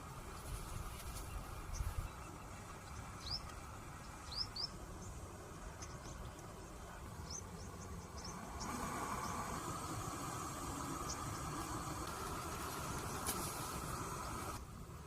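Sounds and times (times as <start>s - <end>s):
bird chirping: 0.6s - 14.6s.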